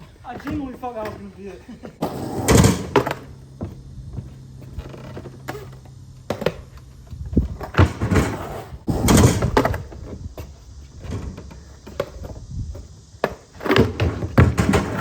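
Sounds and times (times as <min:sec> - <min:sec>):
skateboard knocks and clacks: 0:00.0 - 0:10.2, 0:11.0 - 0:15.0
skateboard scraping: 0:00.0 - 0:15.0.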